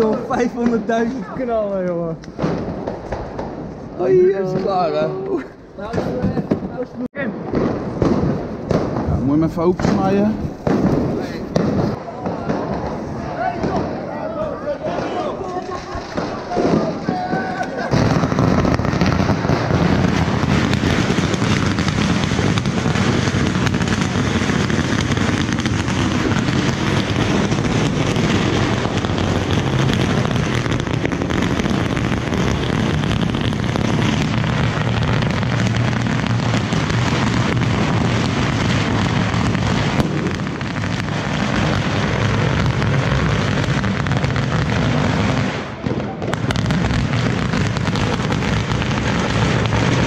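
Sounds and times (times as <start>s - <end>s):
firecracker string crackling: 0.0s - 50.0s.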